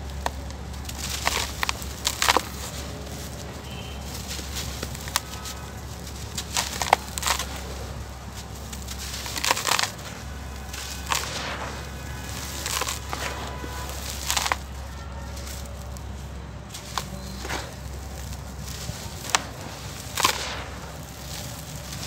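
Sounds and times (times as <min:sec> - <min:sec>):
dry dirt crumbled by hands: 0:00.0 - 0:22.0.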